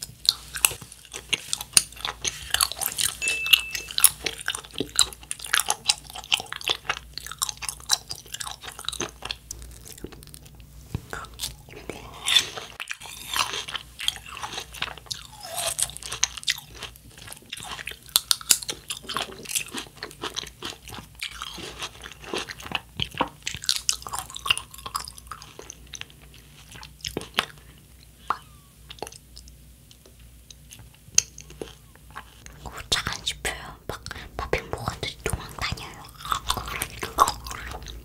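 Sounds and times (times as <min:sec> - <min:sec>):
mouth chewing and crunching: 0:00.0 - 0:38.0.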